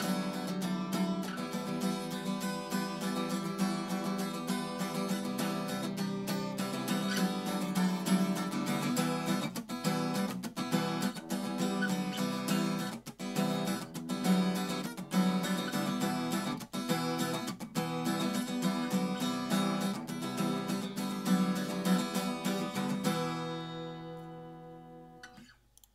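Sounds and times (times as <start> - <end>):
acoustic guitar chord riff: 0.0 - 25.6.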